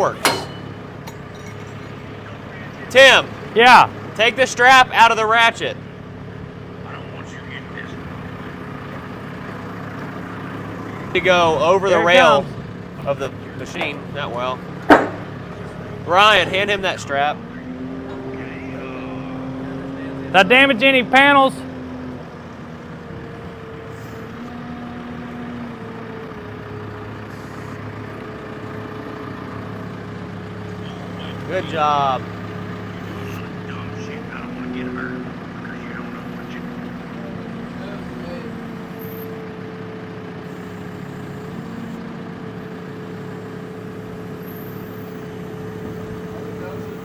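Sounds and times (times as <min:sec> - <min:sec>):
forklift engine running: 0:00.0 - 0:47.0.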